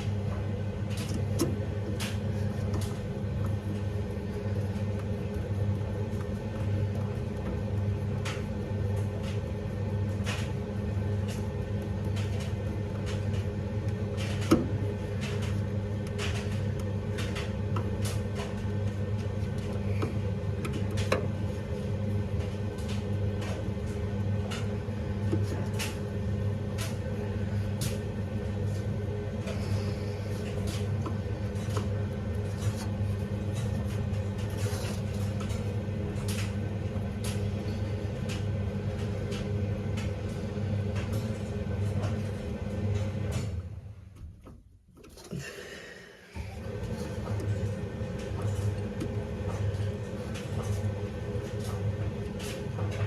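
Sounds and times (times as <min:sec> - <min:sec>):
steady low hum: 0:00.0 - 0:43.1.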